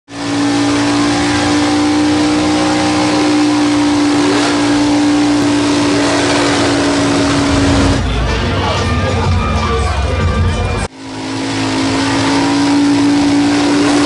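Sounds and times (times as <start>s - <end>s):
truck engine revving high: 0.0s - 14.0s.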